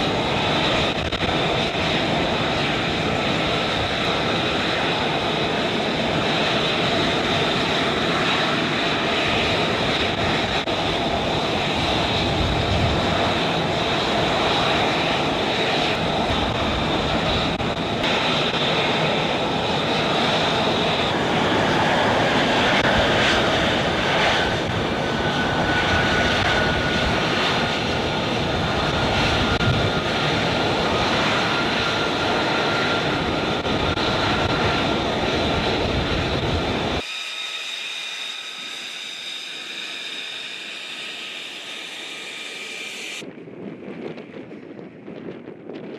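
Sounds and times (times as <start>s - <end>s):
jet engine running loudly: 0.0s - 43.3s.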